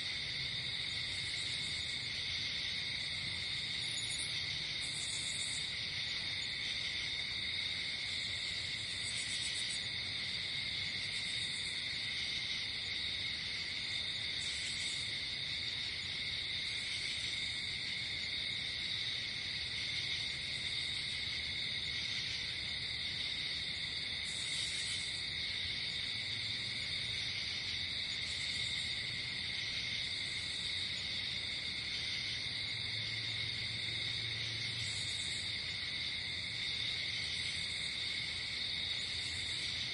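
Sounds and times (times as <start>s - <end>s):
crickets chirring: 0.0s - 39.9s
high pulsing insect call: 0.0s - 39.9s.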